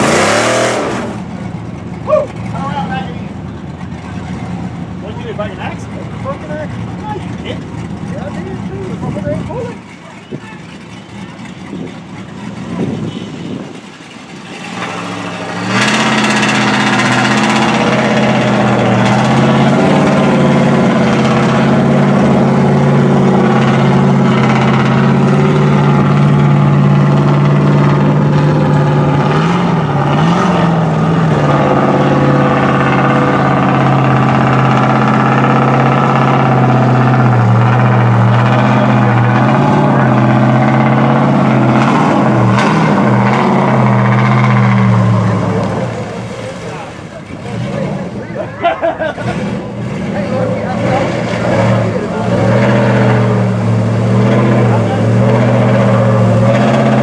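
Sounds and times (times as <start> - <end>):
truck engine at high revs: 0.0 - 57.0.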